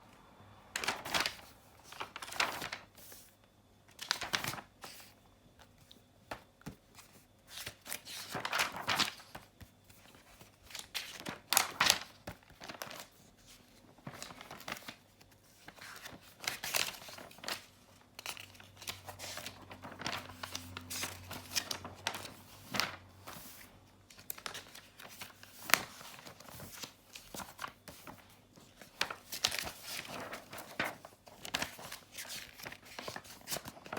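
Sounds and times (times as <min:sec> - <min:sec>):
book pages turning: 0:00.8 - 0:03.3, 0:03.9 - 0:33.9.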